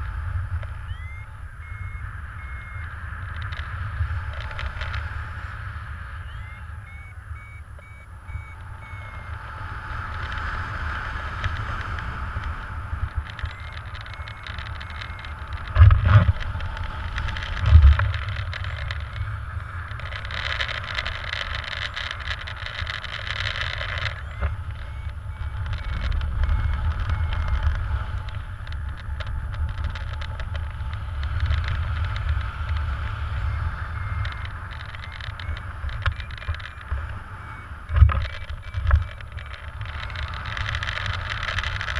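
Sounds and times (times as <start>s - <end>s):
wind rushing over microphone: 0.0s - 41.9s
faint short beeps: 0.7s - 10.7s, 13.1s - 29.8s, 33.3s - 41.9s.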